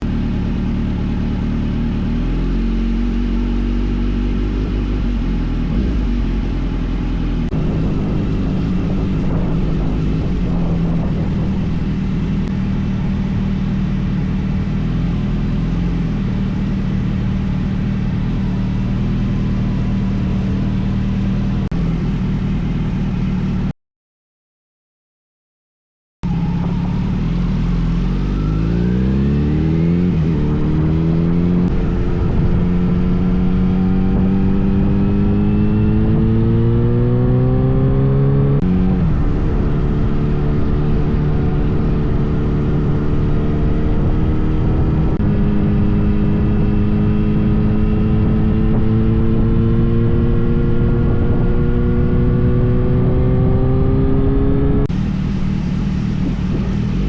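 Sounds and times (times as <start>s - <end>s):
motorcycle engine accelerating: 0.0s - 23.7s, 26.2s - 57.0s
low rumble: 4.9s - 23.7s, 26.2s - 57.0s.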